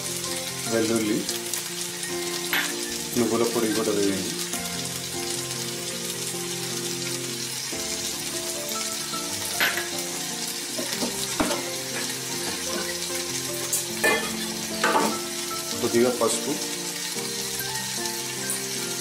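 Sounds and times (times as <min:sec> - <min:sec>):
soft background music: 0:00.0 - 0:19.0
tomatoes sizzling in oil: 0:00.0 - 0:19.0.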